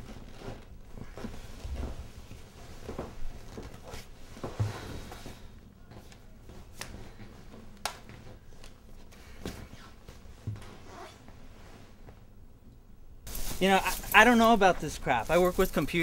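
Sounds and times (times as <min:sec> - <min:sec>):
rustling and handling noises: 0:00.0 - 0:12.4, 0:13.3 - 0:16.0.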